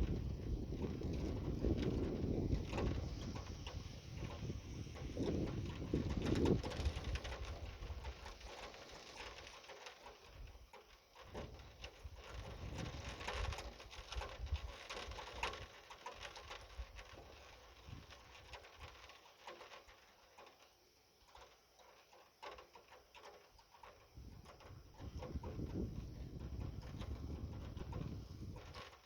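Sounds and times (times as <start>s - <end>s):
rain hissing with drop ticks: 0.0s - 29.0s.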